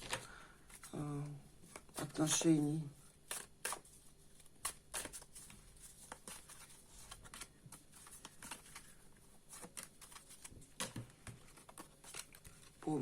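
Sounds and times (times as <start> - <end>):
cards clicking and rustling: 0.0 - 0.9, 3.3 - 13.0.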